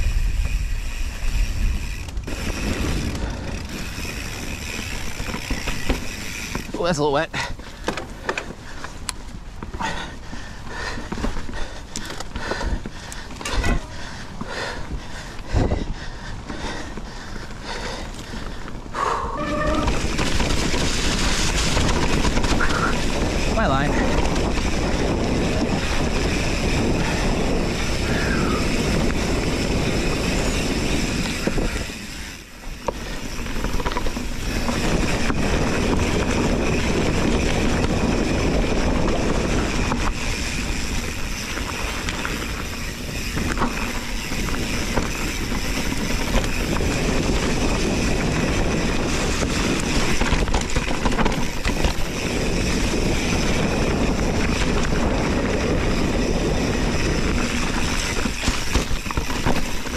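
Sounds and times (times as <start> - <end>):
bike knocks and rattles: 0.0 - 17.1, 19.4 - 59.9
wind buffeting microphone: 0.0 - 59.9.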